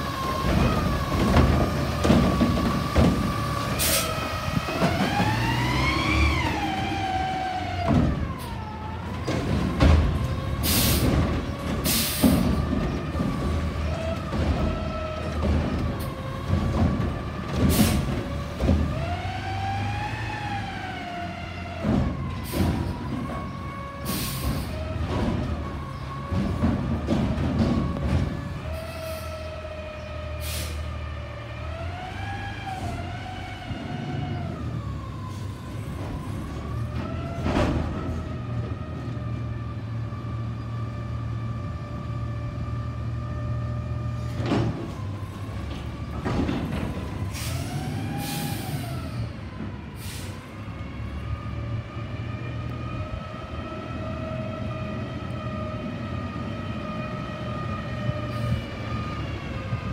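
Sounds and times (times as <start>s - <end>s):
garbage truck engine rumble: 0.0s - 59.9s.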